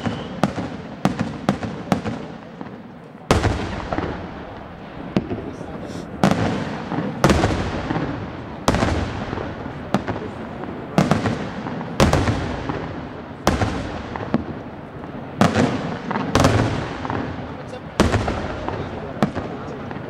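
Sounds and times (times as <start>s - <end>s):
firework bangs with rolling echo: 0.0s - 20.0s.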